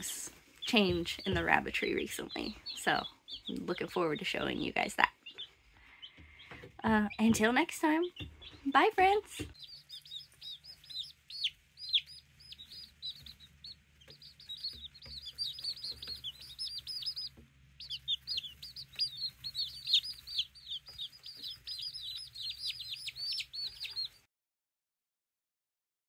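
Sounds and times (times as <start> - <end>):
chicks peeping: 0.0 - 24.3.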